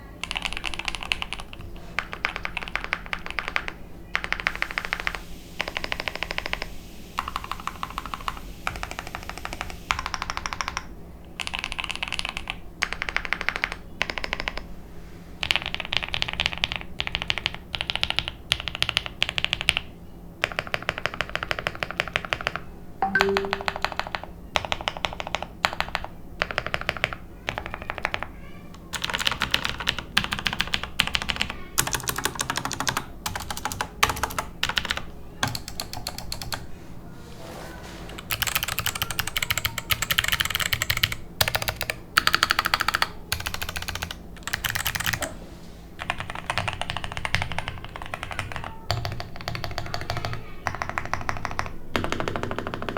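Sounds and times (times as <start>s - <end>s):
mechanical keyboard typing: 0.2s - 14.7s, 15.4s - 36.6s, 38.2s - 45.3s, 46.0s - 52.9s.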